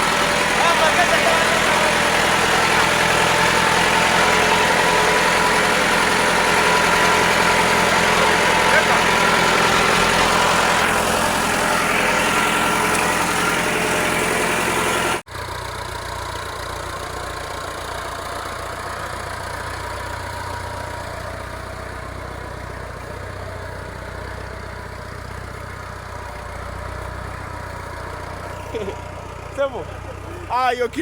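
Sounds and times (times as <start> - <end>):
tractor diesel engine idling: 0.0 - 31.0.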